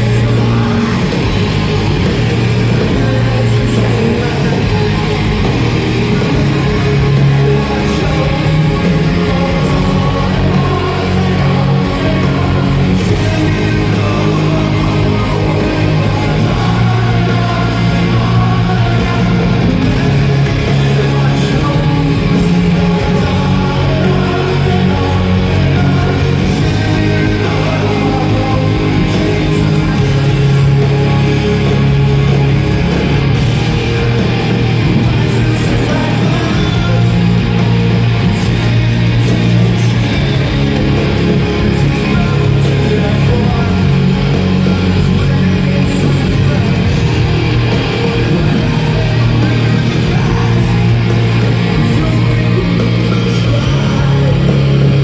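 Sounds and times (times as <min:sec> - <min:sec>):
bass guitar: 0:00.0 - 0:55.0
distorted electric guitars: 0:00.0 - 0:55.0
drums: 0:00.0 - 0:55.0
person singing: 0:00.0 - 0:55.0.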